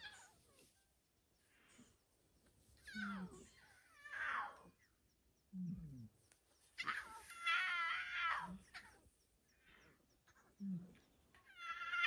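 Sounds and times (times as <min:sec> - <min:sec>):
lion cubs mewing: 0:00.0 - 0:12.0.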